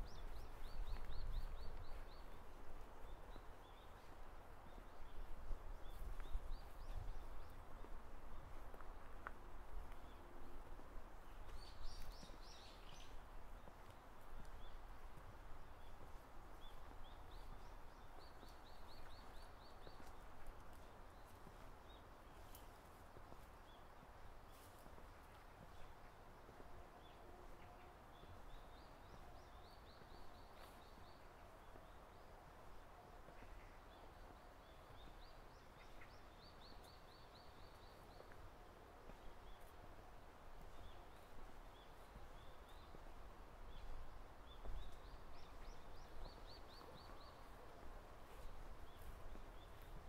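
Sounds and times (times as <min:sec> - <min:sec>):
songbird singing: 0:00.0 - 0:50.0.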